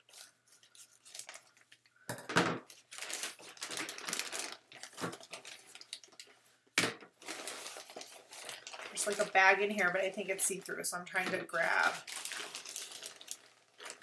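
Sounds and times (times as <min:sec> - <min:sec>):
plastic mailer crinkling: 0:00.0 - 0:02.0, 0:02.6 - 0:06.4, 0:07.1 - 0:14.0.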